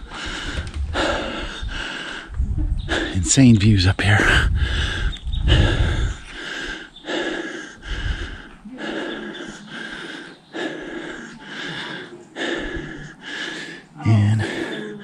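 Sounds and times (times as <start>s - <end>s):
person breathing hard: 0.0s - 3.3s, 4.2s - 15.0s.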